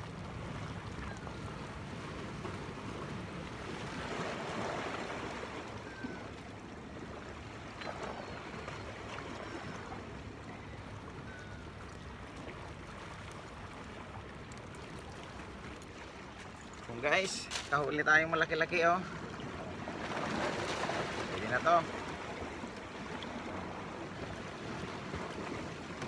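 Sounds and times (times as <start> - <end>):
sea waves lapping against rocks: 0.0 - 10.4, 11.0 - 26.0.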